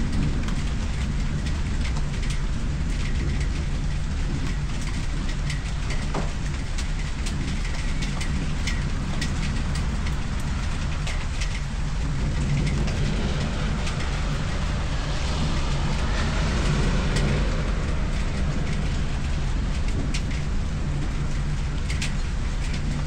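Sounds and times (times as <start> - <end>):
low steady rumble: 0.0 - 23.0
steady rain falling: 0.0 - 23.0.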